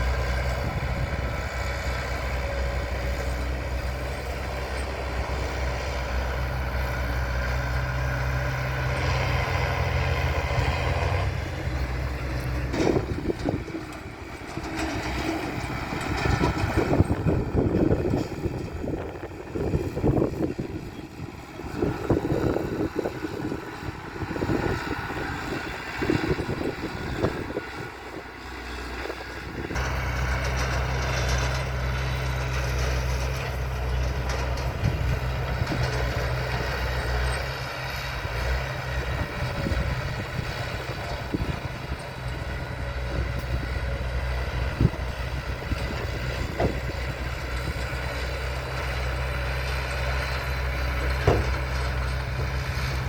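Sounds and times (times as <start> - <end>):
diesel engine of heavy machinery: 0.0 - 53.0.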